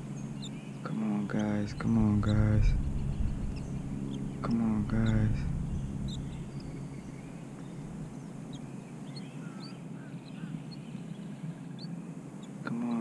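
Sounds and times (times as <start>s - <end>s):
wind rumbling on microphone: 0.0s - 11.9s
bird chirps and calls: 0.0s - 13.0s.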